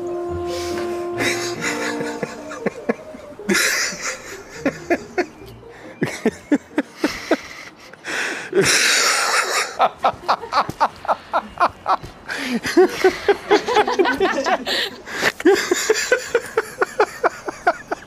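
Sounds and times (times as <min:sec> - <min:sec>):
people laughing: 0:01.2 - 0:18.0.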